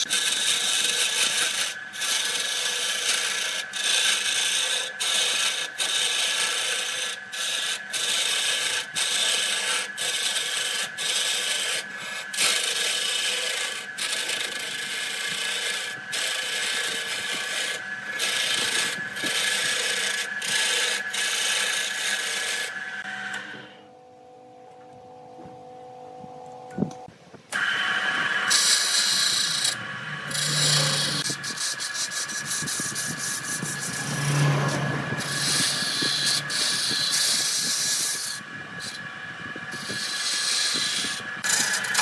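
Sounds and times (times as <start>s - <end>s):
wood shavings rubbing spinning wood: 0.0s - 23.7s, 27.5s - 42.0s
lathe motor whine: 0.0s - 42.0s.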